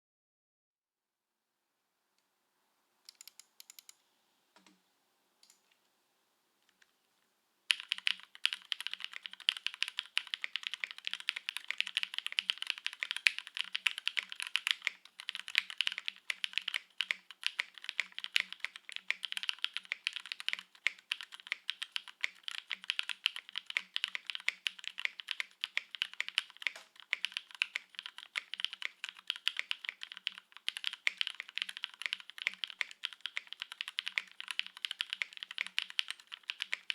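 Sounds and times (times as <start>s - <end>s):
mechanical keyboard typing: 3.1s - 4.0s, 7.7s - 36.9s.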